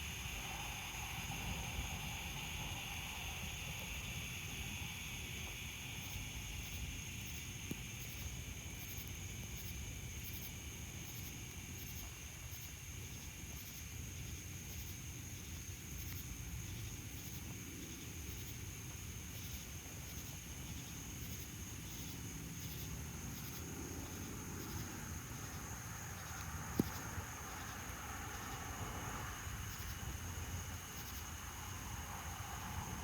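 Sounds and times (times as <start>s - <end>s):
cicadas droning: 0.0s - 33.0s.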